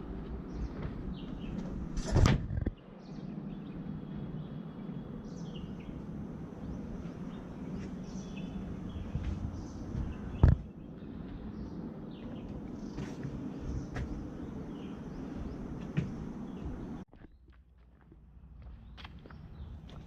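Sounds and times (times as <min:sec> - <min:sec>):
forest ambience: 0:02.7 - 0:20.0.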